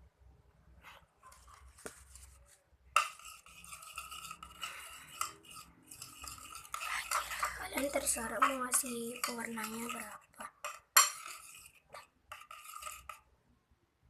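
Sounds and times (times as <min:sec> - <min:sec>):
stirrer scraping a container: 0:00.8 - 0:13.3.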